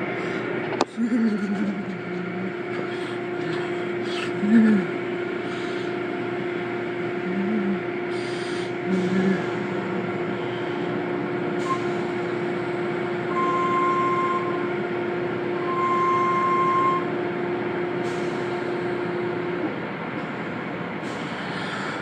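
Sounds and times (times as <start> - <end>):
long higher steady tones: 0.0 - 21.0
car wash machine hum: 0.0 - 22.0.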